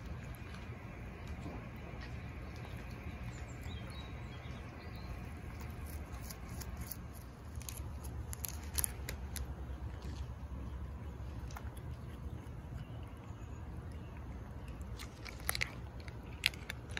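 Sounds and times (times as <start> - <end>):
cat chewing grass: 0.0 - 16.9
low outdoor rumble: 0.0 - 16.9.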